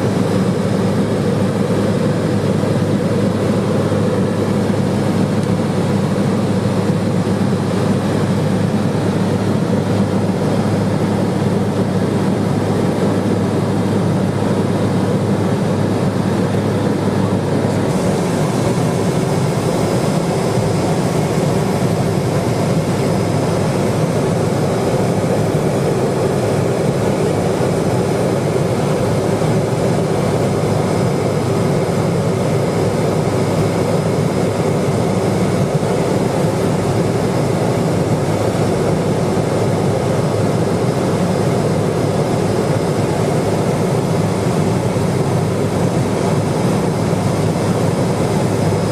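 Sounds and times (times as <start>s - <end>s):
propeller plane engine droning: 0.0s - 48.9s.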